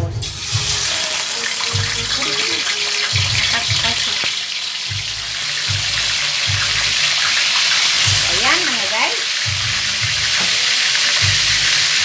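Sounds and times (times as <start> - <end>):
fish frying in hot oil: 0.2 - 12.0.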